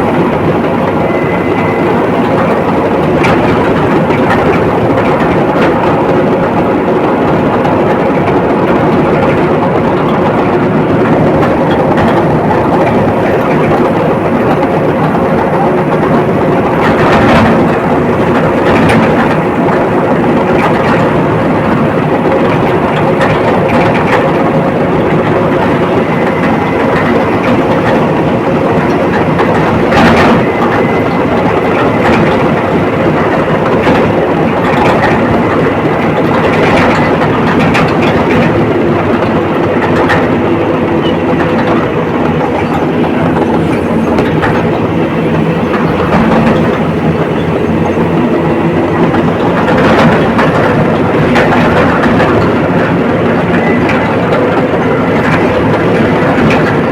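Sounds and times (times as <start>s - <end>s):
bulldozer diesel engine: 0.0s - 56.9s
steel tracks clattering: 0.0s - 56.9s.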